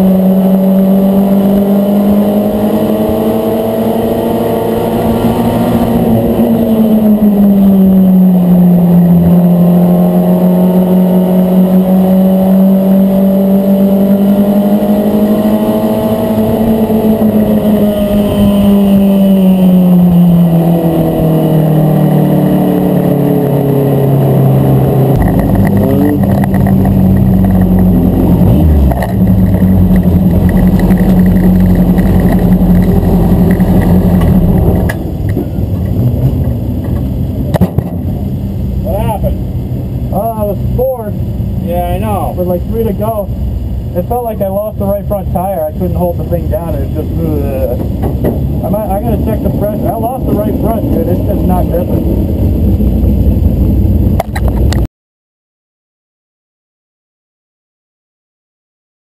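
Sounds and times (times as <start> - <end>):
race car engine at high revs: 0.0 - 54.9.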